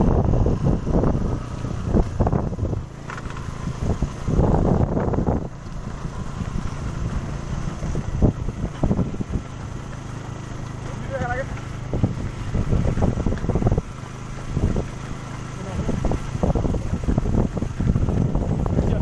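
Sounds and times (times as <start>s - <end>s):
vehicle engine running: 0.0s - 19.0s
wind buffeting microphone: 0.0s - 19.0s.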